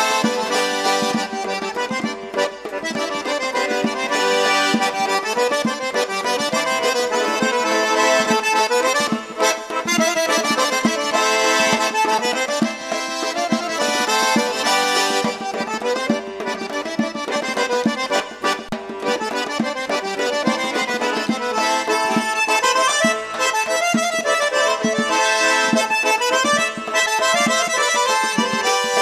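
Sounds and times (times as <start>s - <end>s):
accordion music: 0.0s - 29.0s.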